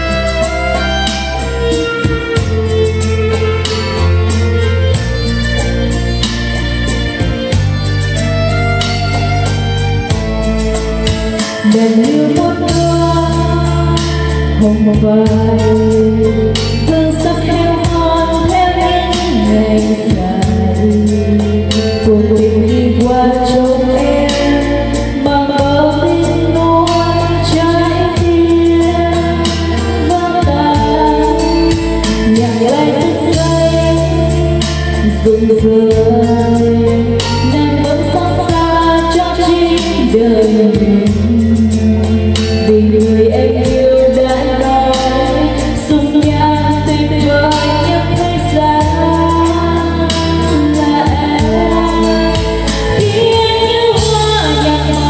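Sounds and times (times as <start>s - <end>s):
backing track with heavy bass: 0.0s - 55.0s
woman singing karaoke: 0.0s - 55.0s.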